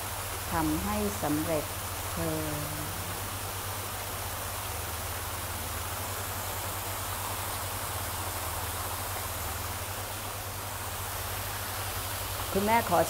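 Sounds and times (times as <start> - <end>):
low hum: 0.0 - 13.0
waterfall rushing: 0.0 - 13.0.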